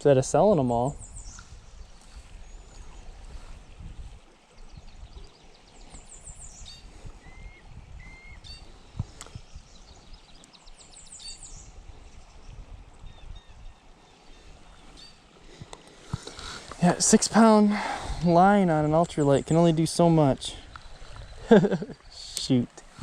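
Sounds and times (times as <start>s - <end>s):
songbirds singing: 0.0s - 23.0s.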